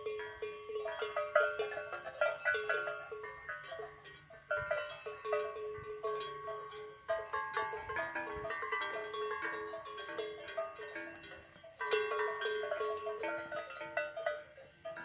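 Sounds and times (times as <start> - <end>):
cowbells clanking: 0.0 - 15.0.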